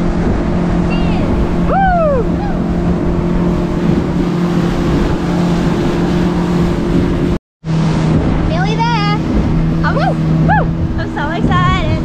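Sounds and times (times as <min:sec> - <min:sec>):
outboard motor humming: 0:00.0 - 0:12.0
wind and water rushing: 0:00.0 - 0:12.0.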